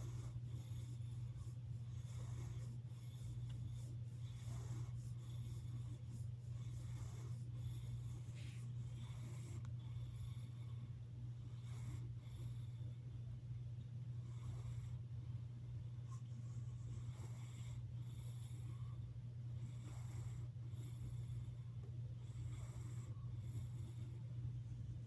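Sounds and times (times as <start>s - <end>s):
cat snoring: 0.0s - 13.0s, 14.2s - 15.0s, 16.1s - 24.2s
steady low hum: 0.0s - 25.0s.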